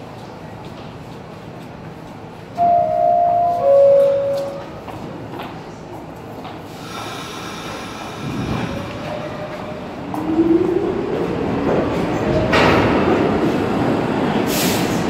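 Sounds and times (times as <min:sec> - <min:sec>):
wheel and rail rumble: 0:00.0 - 0:15.0.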